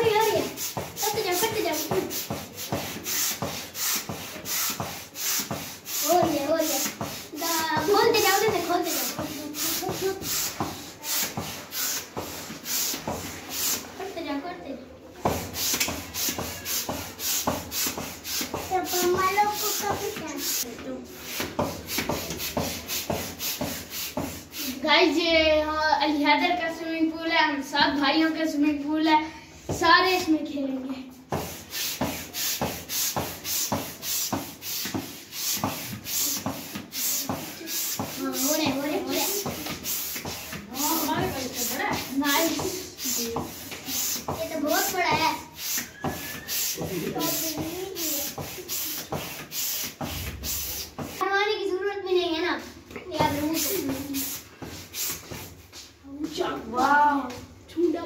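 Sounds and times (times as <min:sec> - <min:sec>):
hand air pump whooshing: 0:00.0 - 0:14.0, 0:15.2 - 0:24.8, 0:31.3 - 0:51.2, 0:52.6 - 0:56.0.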